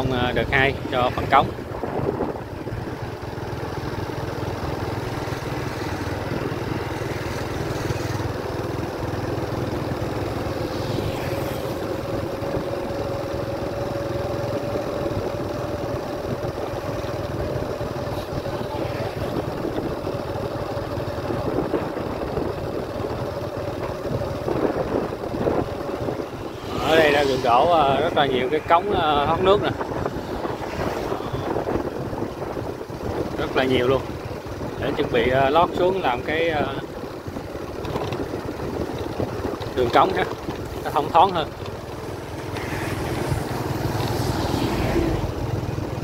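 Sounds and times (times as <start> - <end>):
road rushing noise: 0.0 - 46.0
vehicle engine running: 0.0 - 46.0.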